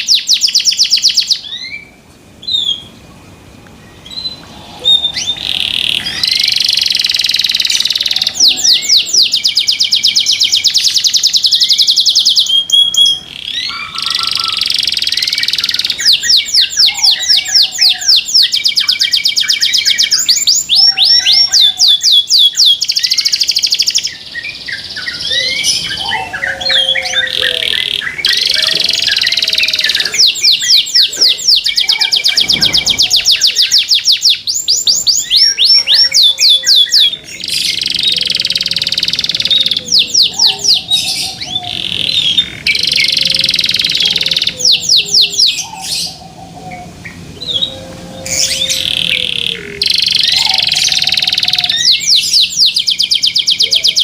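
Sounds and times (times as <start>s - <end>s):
canary singing trills: 0.0s - 3.0s, 3.7s - 54.0s.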